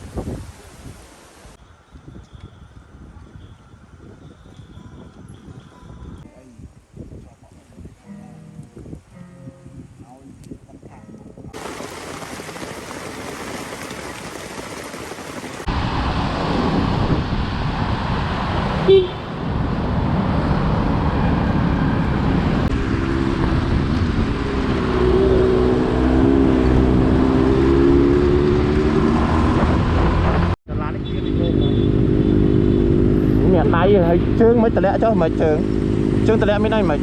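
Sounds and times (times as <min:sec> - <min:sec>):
wind or tyre noise: 0:00.0 - 0:08.0, 0:08.6 - 0:37.0.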